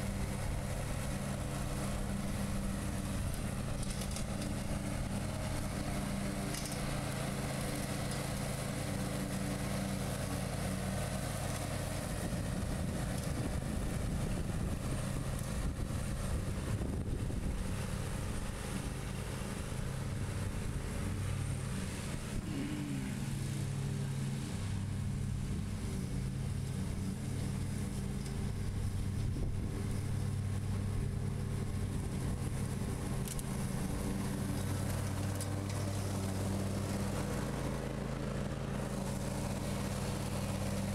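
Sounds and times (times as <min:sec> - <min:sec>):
mower blades cutting grass: 0:00.0 - 0:40.9
mower engine running: 0:00.0 - 0:40.9.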